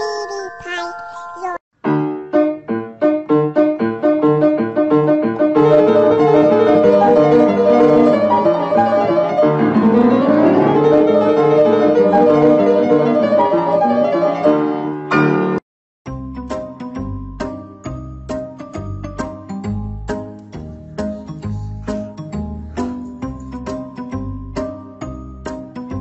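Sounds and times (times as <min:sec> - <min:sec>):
piano music on keyboard: 0:00.0 - 0:26.0.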